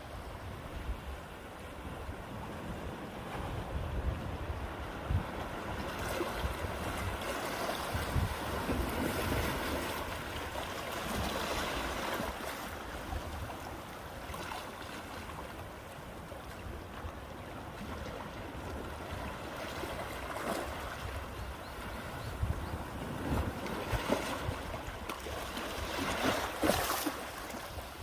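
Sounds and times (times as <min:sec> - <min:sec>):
wind rumble on microphone: 0:00.0 - 0:14.1, 0:16.5 - 0:28.0
sea waves washing ashore: 0:00.0 - 0:28.0.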